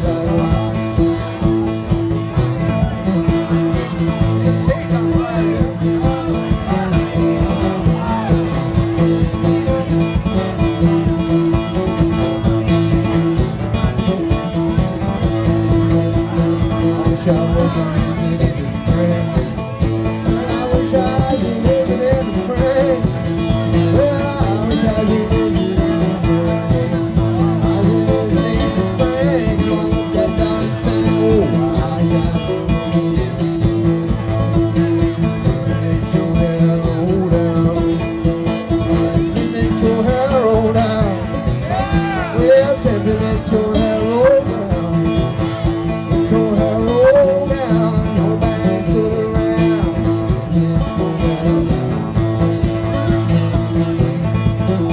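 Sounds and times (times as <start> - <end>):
acoustic guitar: 0.0 - 54.9
banjo: 0.0 - 54.9.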